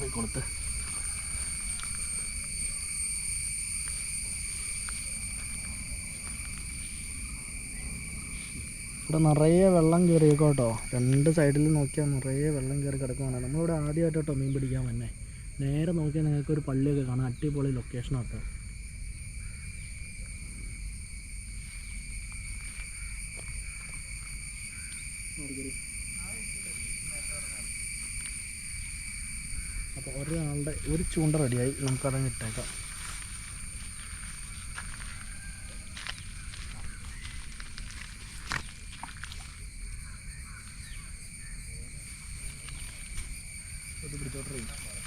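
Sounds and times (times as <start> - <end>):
high-pitched insect chorus: 0.0 - 45.0.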